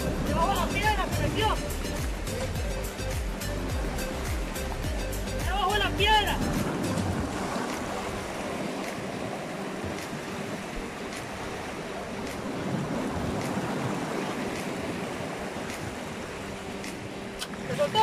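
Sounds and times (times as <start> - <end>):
surf washing against rocks: 0.0 - 18.0.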